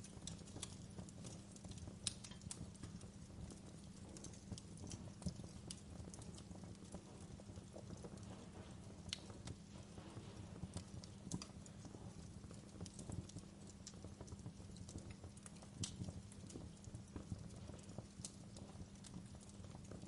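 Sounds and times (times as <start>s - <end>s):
burning logs crackling and popping: 0.0s - 20.0s.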